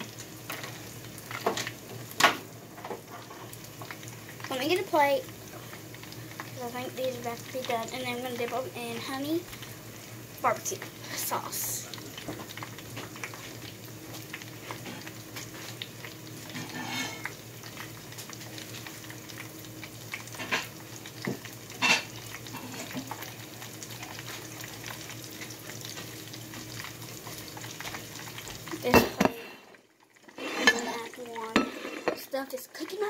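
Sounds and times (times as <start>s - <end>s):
deep-frying sizzle: 0.0s - 33.0s.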